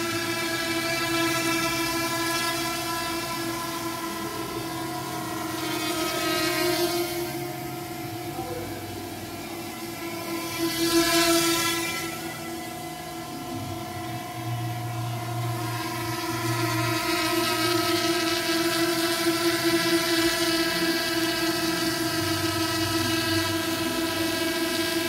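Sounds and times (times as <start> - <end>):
droning hum of held tones: 0.0 - 25.0.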